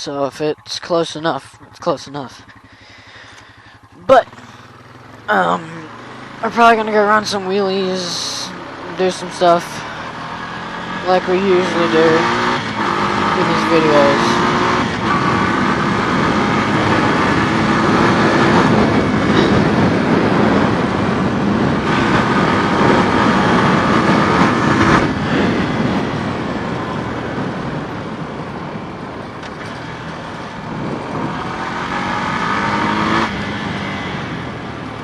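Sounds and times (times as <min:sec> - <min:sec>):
four-wheeler engine revving: 0:00.0 - 0:35.0.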